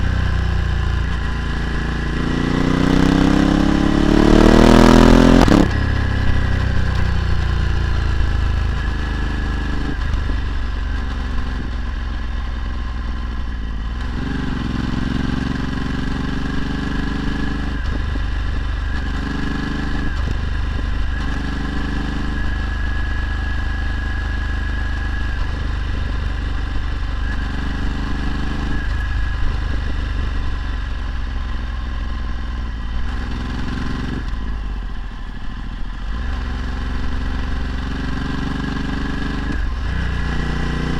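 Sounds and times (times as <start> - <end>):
motorcycle engine under way: 0.0 - 40.9.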